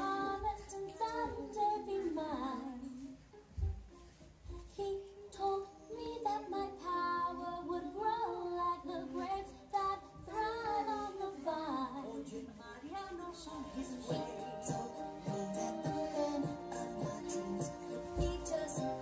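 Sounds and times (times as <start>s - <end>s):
person singing in a high voice: 0.0s - 3.2s, 4.8s - 19.0s.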